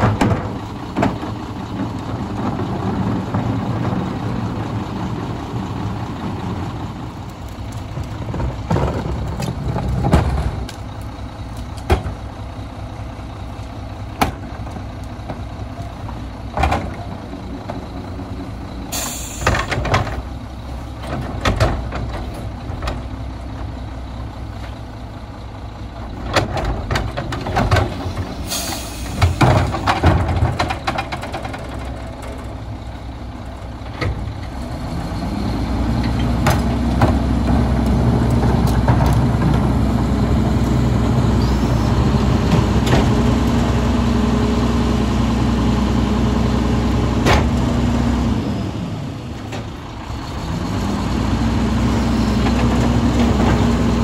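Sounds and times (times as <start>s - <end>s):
truck engine droning with whine: 0.0s - 54.0s.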